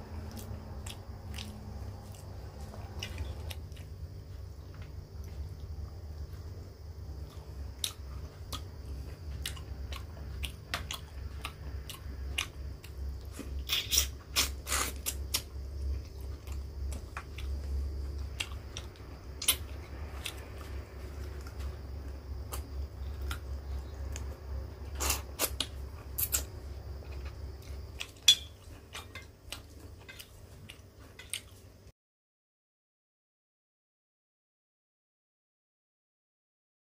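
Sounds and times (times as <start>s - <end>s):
steady low hum: 0.0s - 31.9s
person chewing food: 0.1s - 31.8s.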